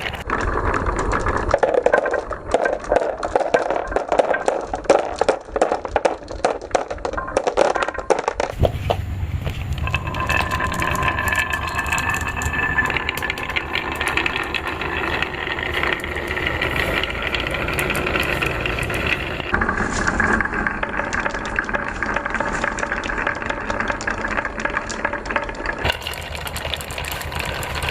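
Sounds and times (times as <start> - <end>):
balls clacking on wooden track: 0.0 - 27.9
balls rolling rumble: 0.0 - 27.9.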